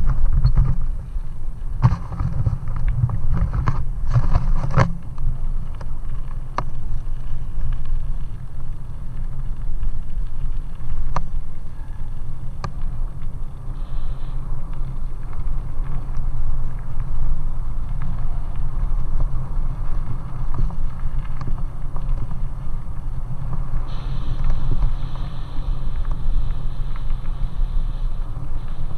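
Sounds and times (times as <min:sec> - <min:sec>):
bicycle tyres on gravel: 0:00.0 - 0:28.9
wind rumble on microphone: 0:00.0 - 0:28.9.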